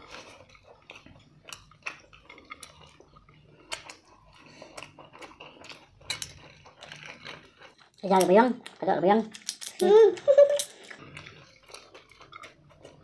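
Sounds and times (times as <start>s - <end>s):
chewing and lip smacking: 0.0s - 13.0s.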